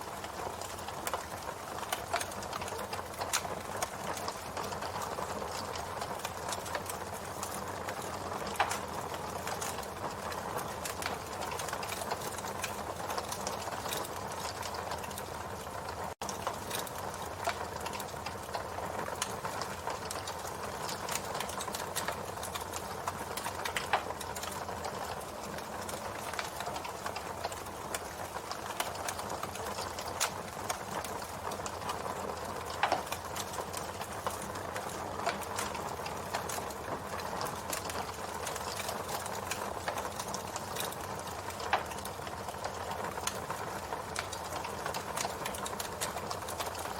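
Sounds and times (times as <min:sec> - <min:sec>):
campfire wood crackling: 0:00.0 - 0:46.9.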